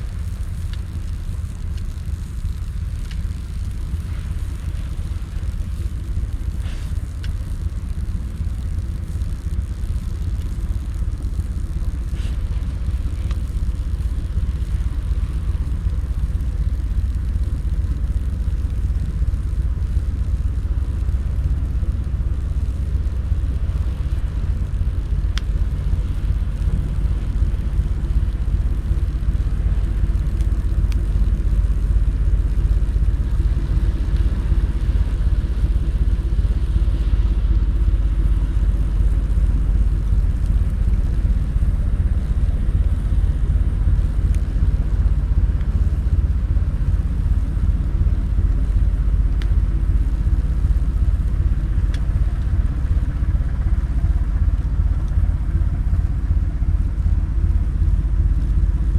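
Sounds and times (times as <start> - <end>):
campfire burning: 0.0 - 58.9
fire crackles: 0.0 - 58.9.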